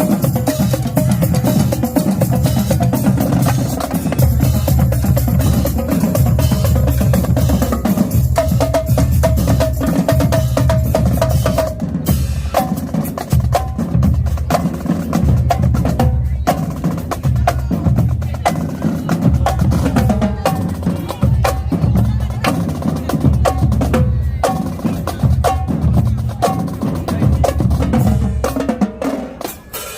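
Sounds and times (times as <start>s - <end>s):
snare and tenor drums: 0.0s - 29.9s.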